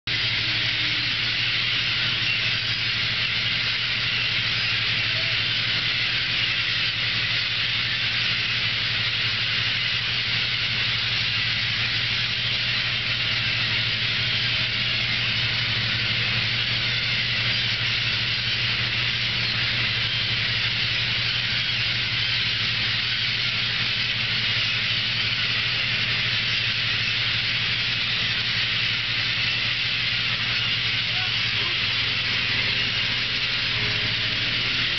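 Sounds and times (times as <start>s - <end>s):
boat machinery droning: 0.0s - 34.9s
constant hiss: 0.1s - 34.9s.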